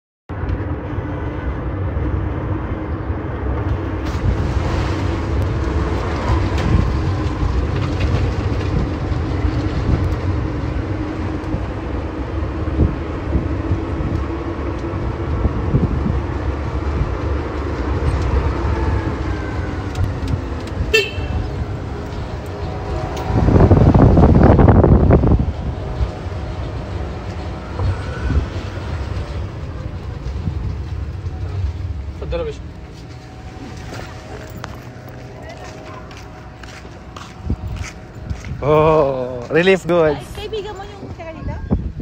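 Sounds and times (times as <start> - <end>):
road noise: 0.3 - 42.0
wind on microphone: 3.3 - 42.0.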